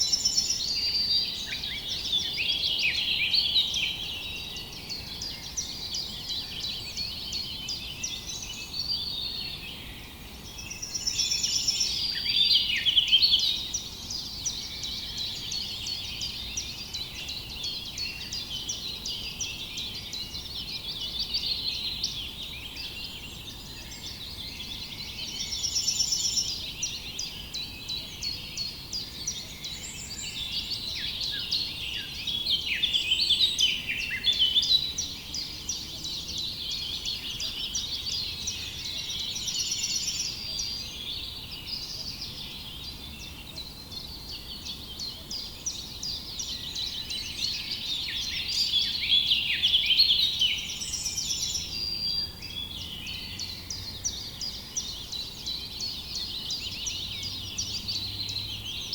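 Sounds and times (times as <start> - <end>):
small birds chorus chirping: 0.0 - 58.9.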